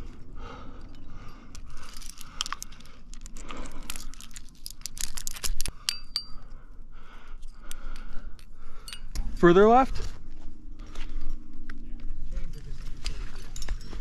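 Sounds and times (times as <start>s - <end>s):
climbing gear clinking: 0.0s - 6.7s, 7.3s - 10.2s, 10.8s - 14.0s.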